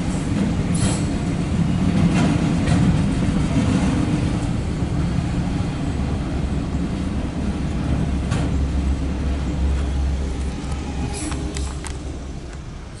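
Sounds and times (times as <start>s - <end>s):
freight cars rolling rumble: 0.0s - 13.0s.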